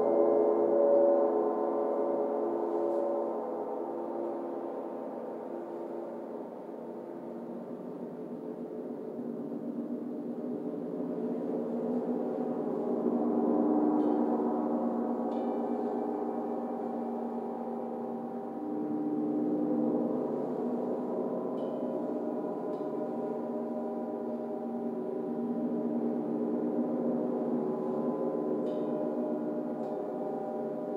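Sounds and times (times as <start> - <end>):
shimmering gong wash: 0.0 - 30.9.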